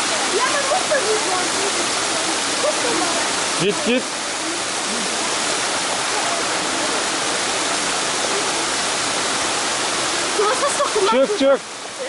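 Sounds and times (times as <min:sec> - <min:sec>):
stream running over rocks: 0:00.0 - 0:12.0
waterfall pouring into a pool: 0:00.0 - 0:12.0.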